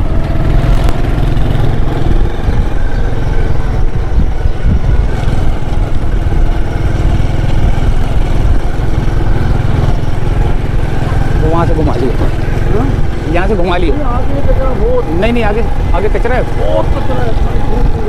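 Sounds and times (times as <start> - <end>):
motorcycle engine running: 0.0 - 18.0
wind rumble on microphone: 0.0 - 18.0.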